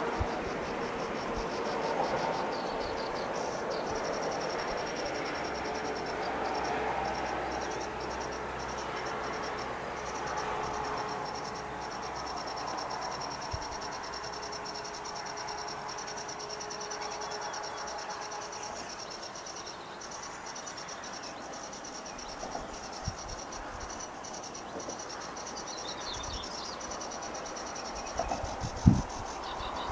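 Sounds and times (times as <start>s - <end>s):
high-pitched cricket-like trill: 0.0s - 29.9s.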